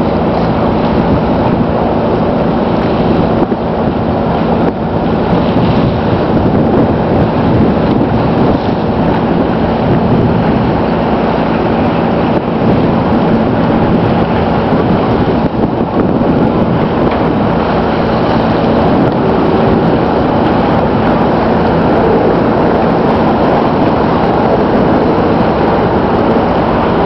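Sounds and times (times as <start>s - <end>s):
boat engine droning: 0.0s - 27.0s
constant rumble: 0.0s - 27.0s.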